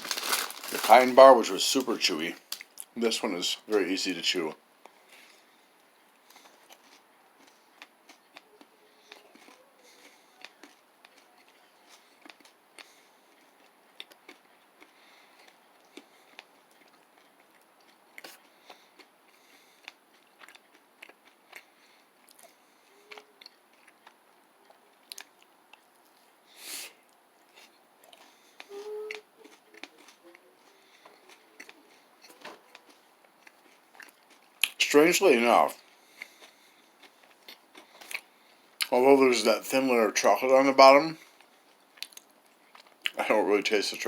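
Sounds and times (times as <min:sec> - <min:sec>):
person chewing: 0:00.0 - 0:01.1, 0:04.8 - 0:34.8, 0:35.8 - 0:38.9, 0:41.2 - 0:43.2.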